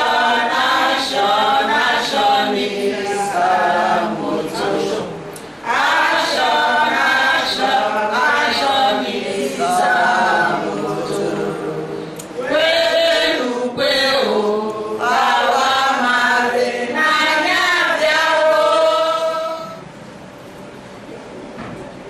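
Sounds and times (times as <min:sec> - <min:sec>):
women singing together: 0:00.0 - 0:19.9.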